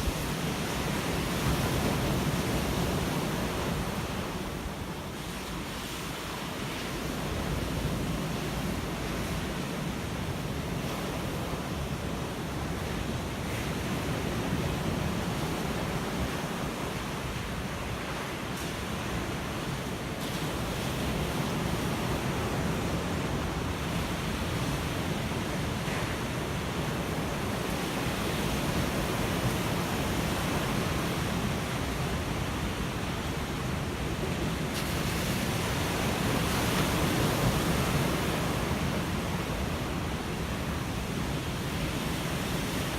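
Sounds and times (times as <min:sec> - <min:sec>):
ocean surf washing ashore: 0:00.0 - 0:42.9.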